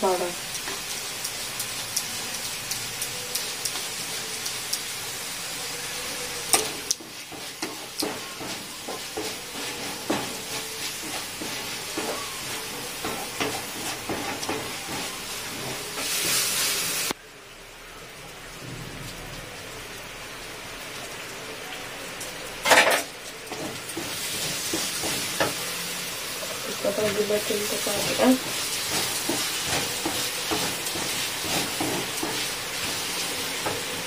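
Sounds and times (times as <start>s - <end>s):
spices sizzling in oil: 0.0s - 18.6s, 19.4s - 34.0s.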